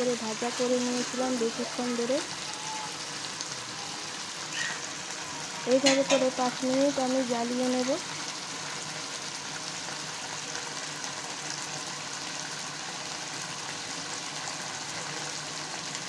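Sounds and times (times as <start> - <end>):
curry sizzling and bubbling in a pan: 0.0 - 16.0.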